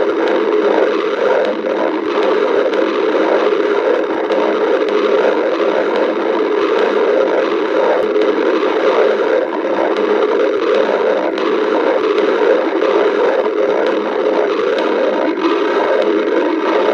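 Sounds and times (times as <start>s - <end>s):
stomach growling: 0.0s - 16.9s.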